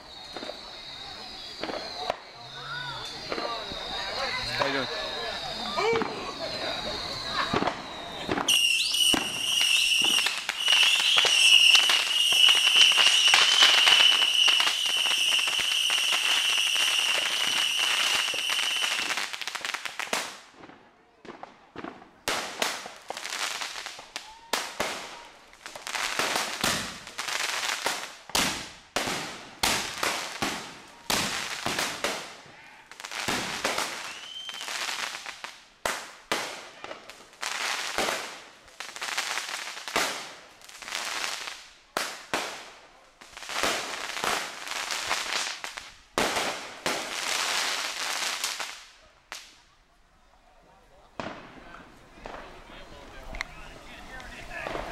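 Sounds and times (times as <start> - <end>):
fireworks bangs and pops: 0.0 - 49.6, 51.0 - 54.9.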